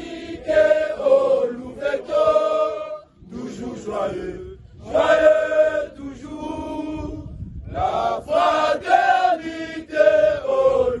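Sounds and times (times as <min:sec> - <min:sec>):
group singing a hymn: 0:00.0 - 0:11.0.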